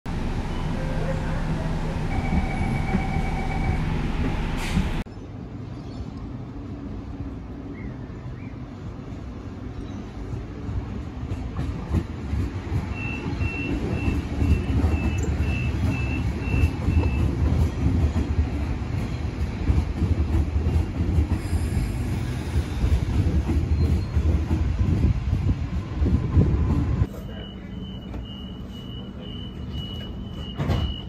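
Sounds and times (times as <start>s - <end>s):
train wheels rumbling on rail: 0.1s - 5.1s, 6.3s - 31.0s.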